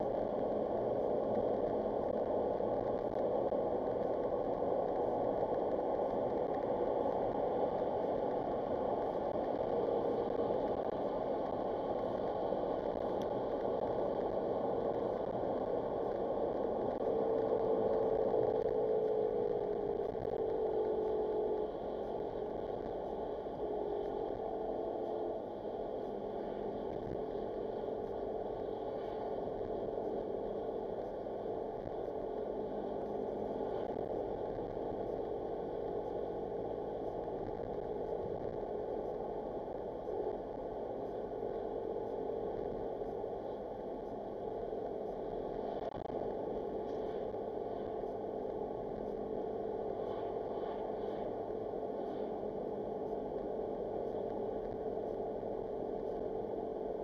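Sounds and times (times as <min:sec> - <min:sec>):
constant low hum: 0:00.0 - 0:57.0
road and engine drone in car: 0:00.0 - 0:57.0.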